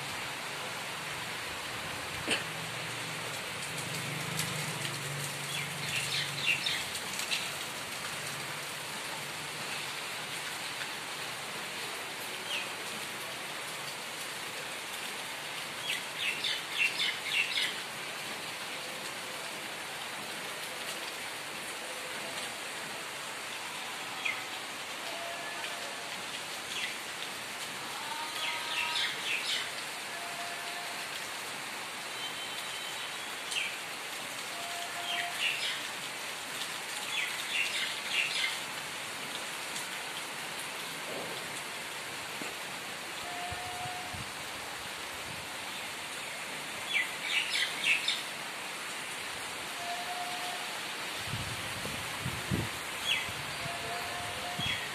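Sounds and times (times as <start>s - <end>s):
rain on concrete rooftop: 0.0s - 54.9s.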